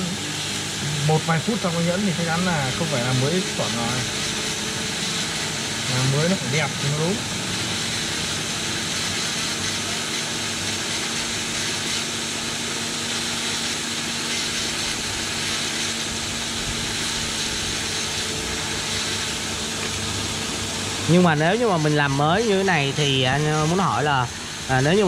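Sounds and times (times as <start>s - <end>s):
rotary tool motor hum and hiss: 0.0s - 25.0s.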